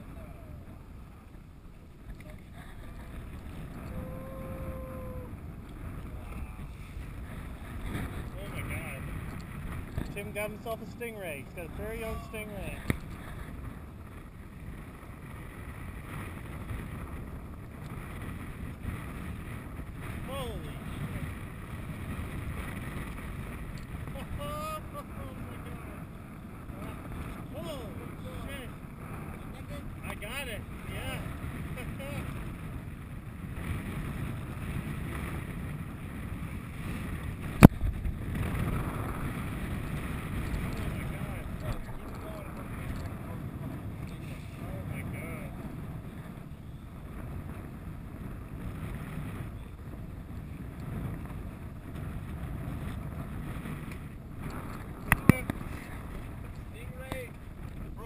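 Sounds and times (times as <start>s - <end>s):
water noise: 0.0s - 58.0s
wind rumble on microphone: 0.0s - 58.0s.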